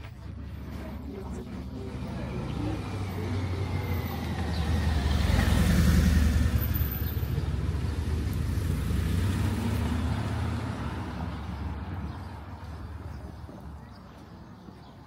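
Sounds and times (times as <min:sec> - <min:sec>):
vehicle passing by: 0:00.4 - 0:13.6.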